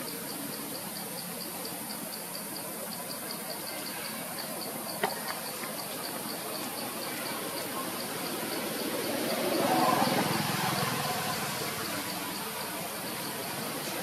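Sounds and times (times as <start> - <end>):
background hiss: 0.0 - 14.0
insect chirping: 0.0 - 14.0.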